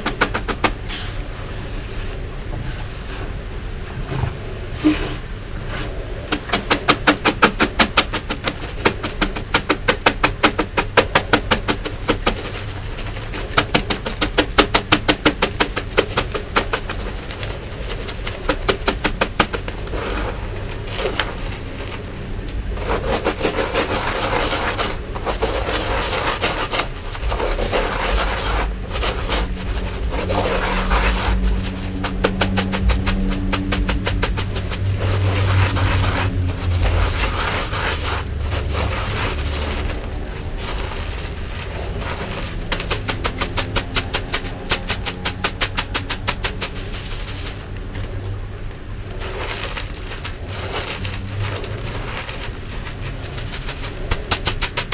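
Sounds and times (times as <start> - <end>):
sieve tapping and rattling: 0.0 - 0.9, 6.3 - 48.4, 49.2 - 54.9
crumbs rubbing through mesh: 0.0 - 1.2, 4.8 - 54.9.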